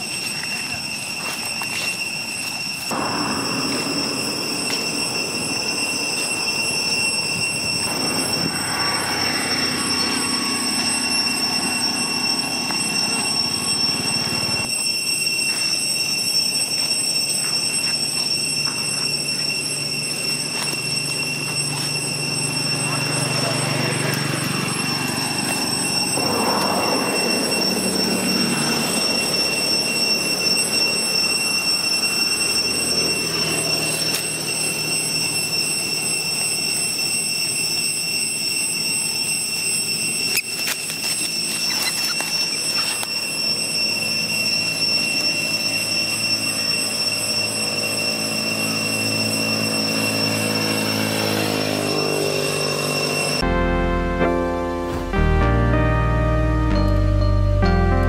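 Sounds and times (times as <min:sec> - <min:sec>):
cicadas droning: 0:00.0 - 0:53.5.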